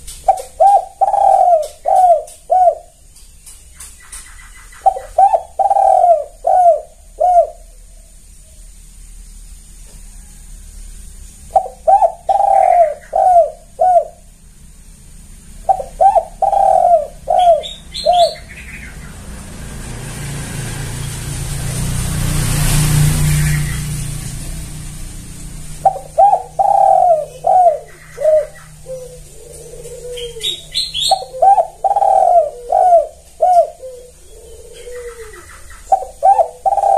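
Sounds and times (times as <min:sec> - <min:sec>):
dove cooing: 0:00.0 - 0:03.1, 0:03.8 - 0:08.6, 0:11.4 - 0:14.4, 0:15.5 - 0:20.5, 0:21.3 - 0:36.9.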